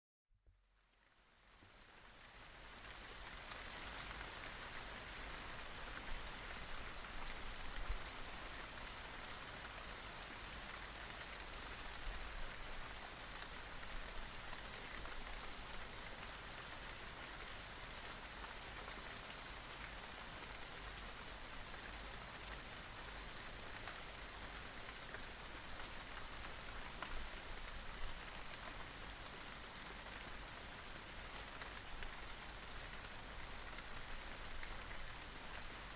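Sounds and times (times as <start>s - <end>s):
light rain falling: 0.6s - 35.9s.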